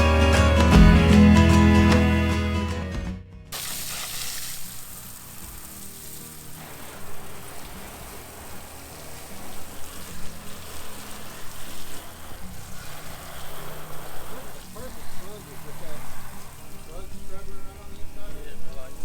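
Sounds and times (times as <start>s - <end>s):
spraying water hiss: 3.5s - 19.0s.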